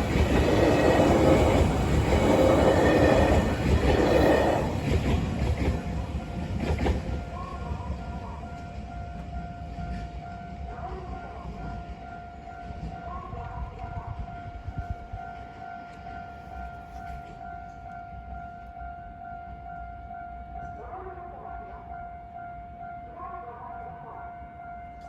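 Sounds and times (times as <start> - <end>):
train rumbling past: 0.0 - 21.0
crossing warning bell ringing: 0.0 - 25.0.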